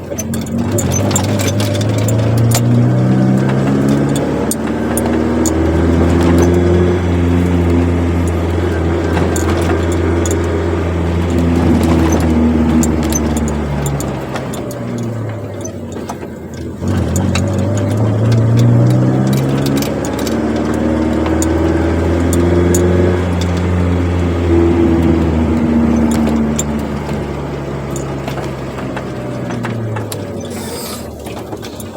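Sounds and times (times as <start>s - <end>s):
car engine droning: 0.0s - 31.9s.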